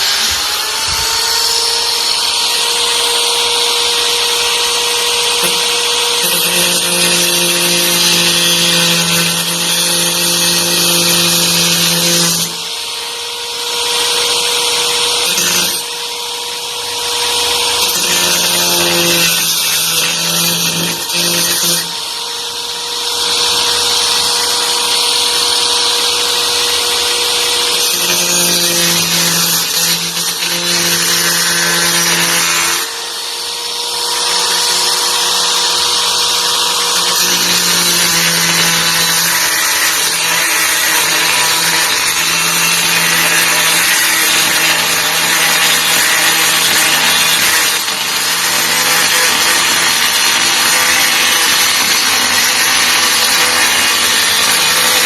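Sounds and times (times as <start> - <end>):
angle grinder motor whine: 0.0 - 55.0
loud grinding noise: 0.0 - 55.0.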